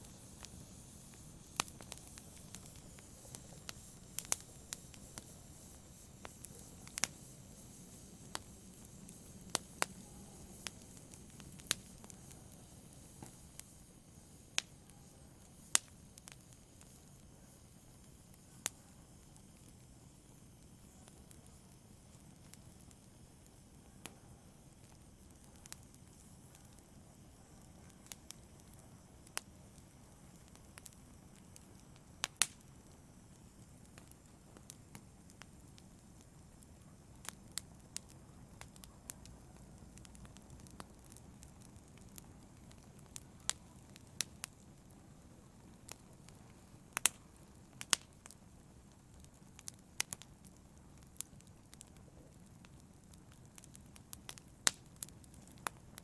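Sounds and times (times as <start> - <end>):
fire hissing: 0.0 - 56.0
wood fire crackling and popping: 0.0 - 56.0.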